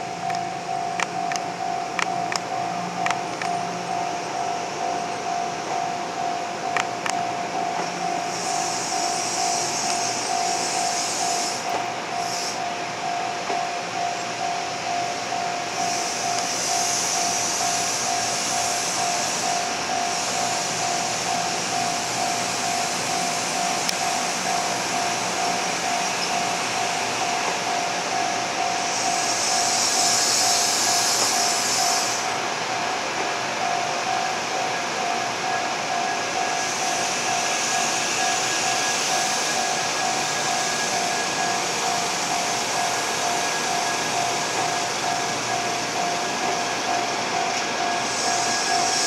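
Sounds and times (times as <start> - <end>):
train high hiss: 0.0 - 49.0
train low rumble: 0.0 - 49.0.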